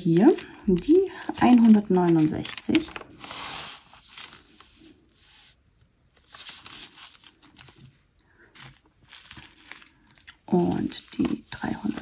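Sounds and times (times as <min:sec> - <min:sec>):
plastic bags crinkling: 0:00.0 - 0:04.9, 0:06.1 - 0:12.0.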